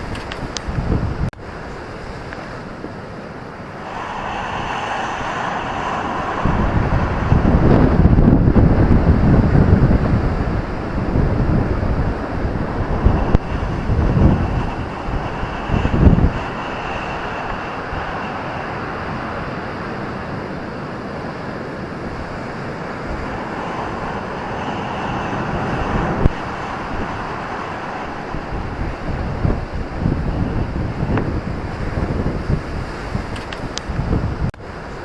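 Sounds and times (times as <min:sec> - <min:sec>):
ocean surf on a beach: 0:00.0 - 0:35.0
wind buffeting microphone: 0:00.0 - 0:35.0.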